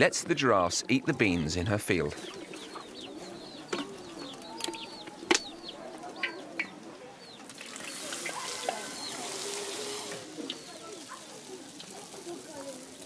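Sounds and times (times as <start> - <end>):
chickens clucking: 0.0 - 12.8
small birds chirping: 0.2 - 13.0.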